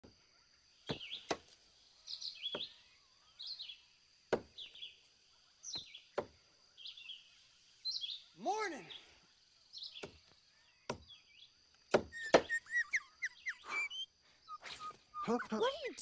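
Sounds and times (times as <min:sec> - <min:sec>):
bird chirping: 0:00.1 - 0:16.0.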